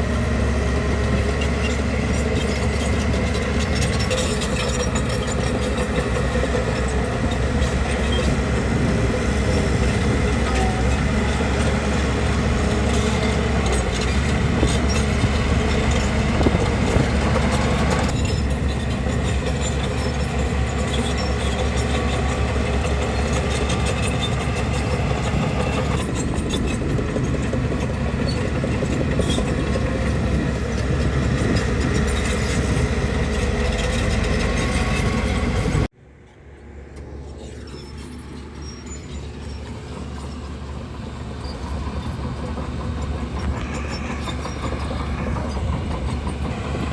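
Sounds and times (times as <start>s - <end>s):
bulldozer engine running: 0.0s - 46.9s.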